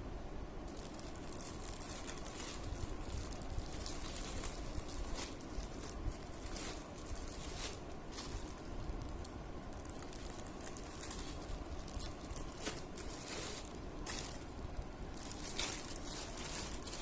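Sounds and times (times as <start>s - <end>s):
background hiss: 0.0s - 17.0s
soft rustling and handling: 0.7s - 17.0s.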